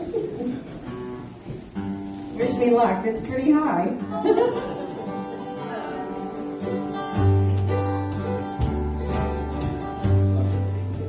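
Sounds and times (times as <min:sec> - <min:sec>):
acoustic guitar picking and strumming: 0:00.0 - 0:11.0.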